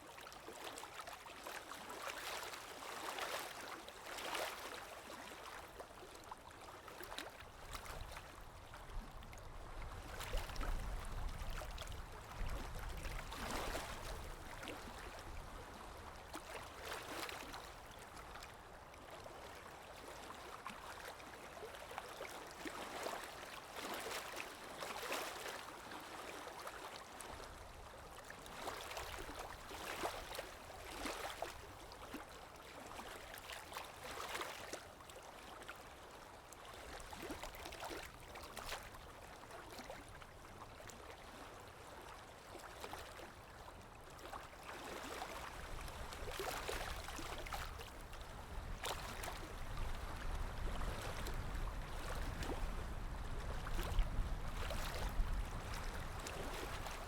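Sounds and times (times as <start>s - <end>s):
water lapping: 0.1s - 57.0s.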